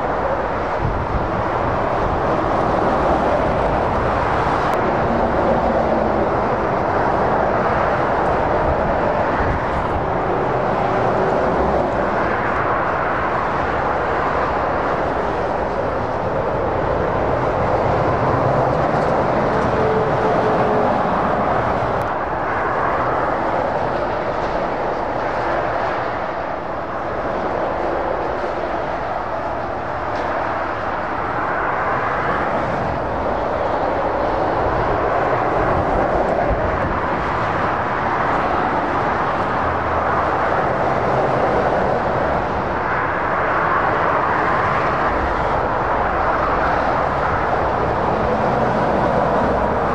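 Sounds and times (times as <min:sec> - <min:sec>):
motorway traffic roar: 0:00.0 - 0:49.9.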